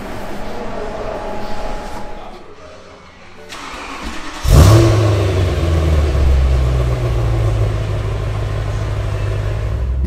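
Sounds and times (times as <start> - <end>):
car engine starting and idling: 0.0 - 10.0.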